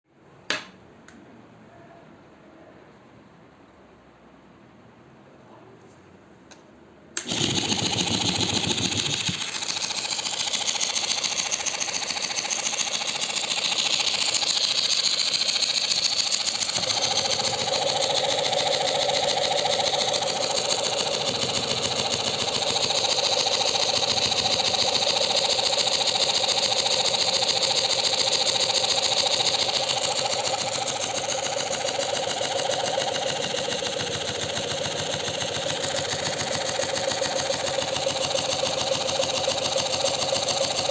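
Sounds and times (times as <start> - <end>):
small electric motor whirring: 7.2 - 40.9.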